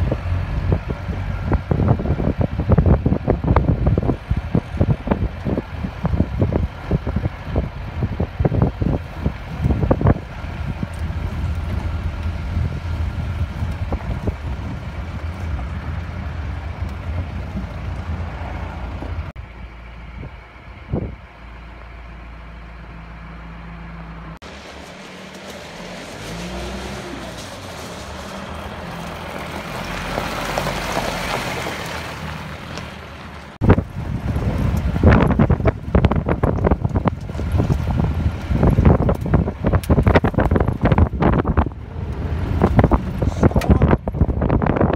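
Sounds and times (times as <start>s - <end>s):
rough road noise: 0.0s - 44.9s
vehicle engine drone: 0.0s - 44.9s.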